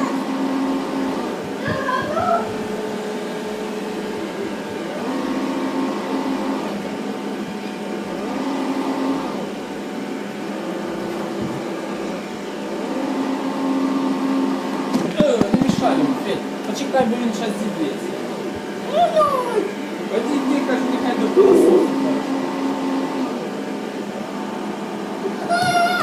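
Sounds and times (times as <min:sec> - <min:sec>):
robot vacuum motors whirring: 0:00.0 - 0:24.2.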